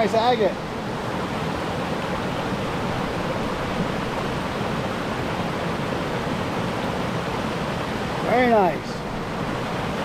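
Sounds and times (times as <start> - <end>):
mountain creek flowing over rocks: 0.0 - 10.0.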